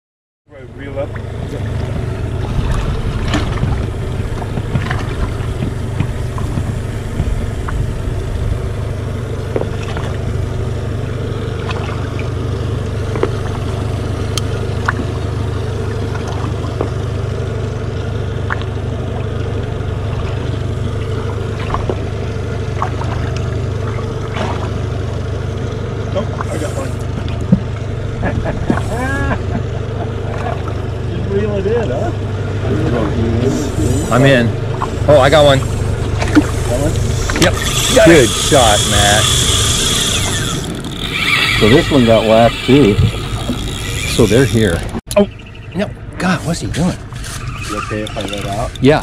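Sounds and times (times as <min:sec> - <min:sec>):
outboard motor humming: 0:00.5 - 0:49.0.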